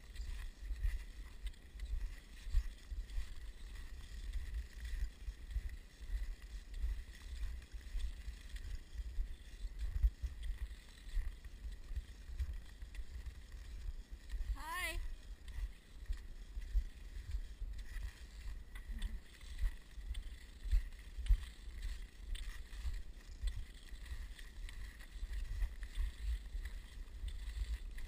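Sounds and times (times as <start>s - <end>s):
skis gliding over snow: 0.0s - 28.0s.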